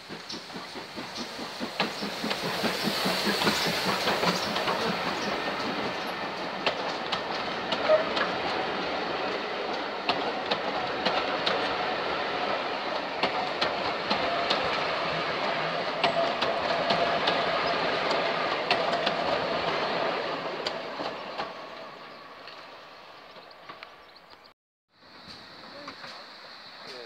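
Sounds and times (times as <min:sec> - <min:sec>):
steam locomotive hiss: 0:00.0 - 0:21.1, 0:25.0 - 0:27.0
train wheels clattering over rail joints: 0:00.0 - 0:24.0
steady train rumble: 0:00.0 - 0:24.1.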